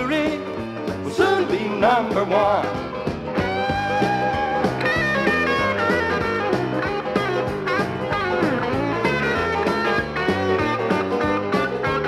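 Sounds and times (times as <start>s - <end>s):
upbeat instrumental band music: 0.0s - 12.0s.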